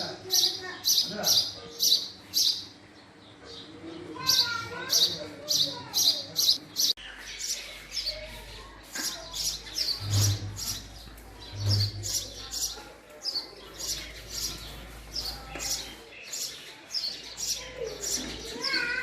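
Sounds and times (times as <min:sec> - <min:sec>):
sparrow chirping: 0:00.0 - 0:19.0.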